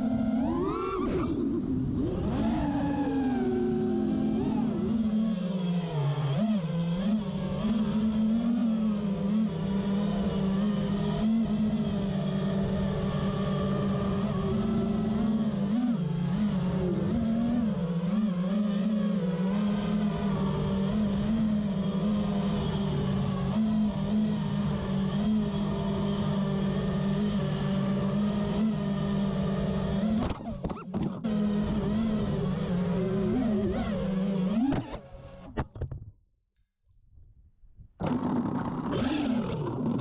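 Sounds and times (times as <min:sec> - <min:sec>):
drone motors whining: 0:00.0 - 0:35.9, 0:38.0 - 0:40.0.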